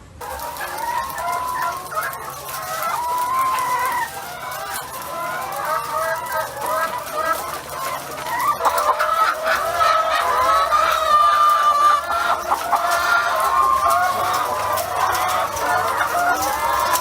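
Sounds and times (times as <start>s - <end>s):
hens clucking: 0.2s - 17.0s.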